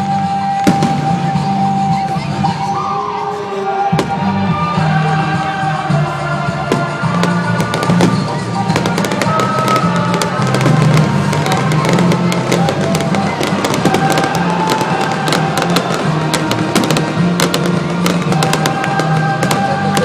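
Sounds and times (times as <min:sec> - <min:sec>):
fireworks bursting and crackling: 0:00.0 - 0:20.0
loud music over loudspeakers: 0:00.0 - 0:20.0.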